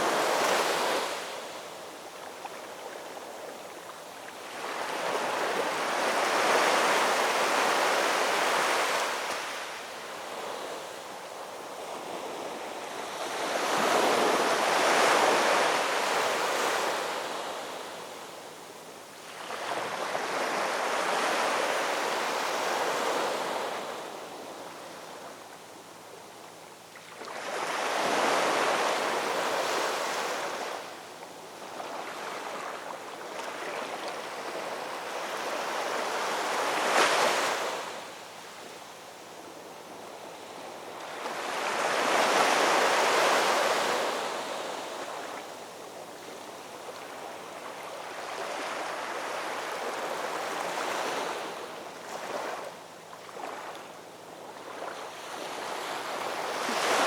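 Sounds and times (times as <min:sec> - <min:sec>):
ocean waves breaking on shore: 0:00.0 - 0:25.4, 0:26.9 - 0:57.0.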